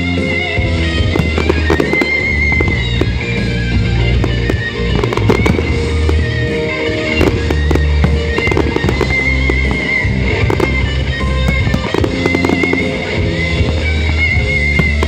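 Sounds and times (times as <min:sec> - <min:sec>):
fireworks bangs and crackles: 0:00.0 - 0:15.0
loud music with held notes: 0:00.0 - 0:15.0.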